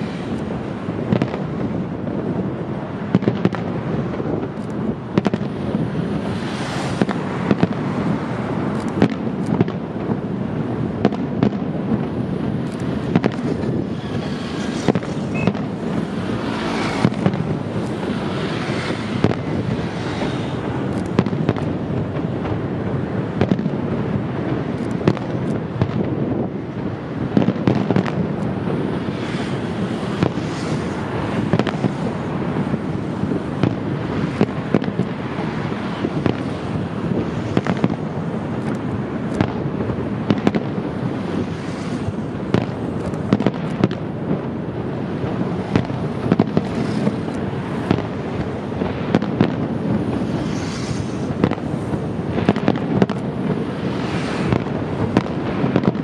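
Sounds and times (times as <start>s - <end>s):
fireworks cracks and bangs: 0.0s - 56.0s
fireworks rumble: 0.0s - 56.0s.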